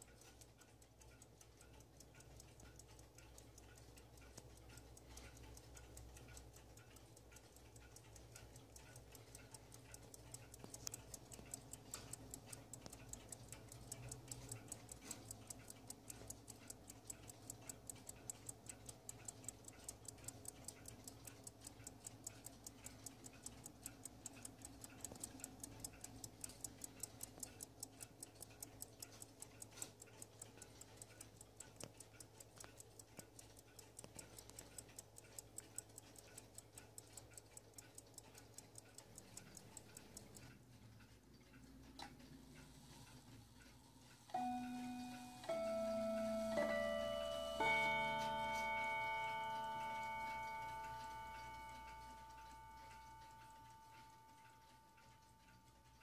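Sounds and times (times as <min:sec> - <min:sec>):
clock ticking rapidly: 0:00.0 - 0:56.0.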